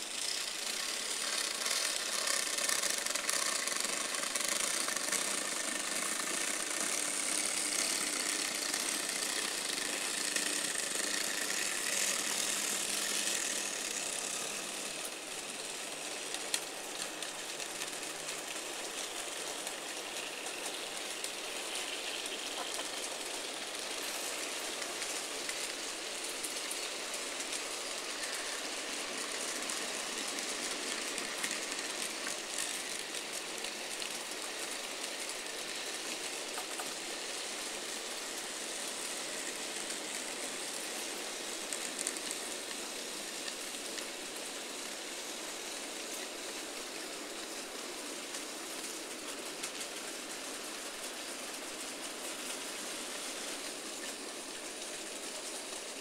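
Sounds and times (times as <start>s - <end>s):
model train wheels whirring: 0.0s - 56.0s.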